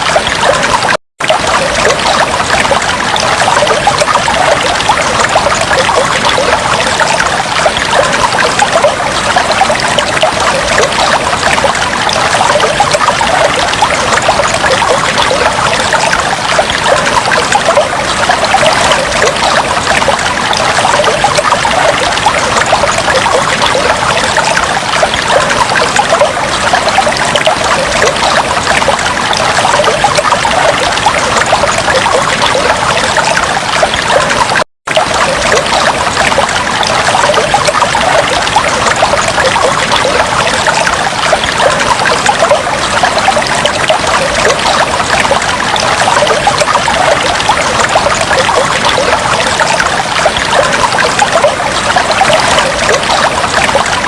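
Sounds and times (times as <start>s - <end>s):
fish tank water trickling and bubbling: 0.0s - 54.0s.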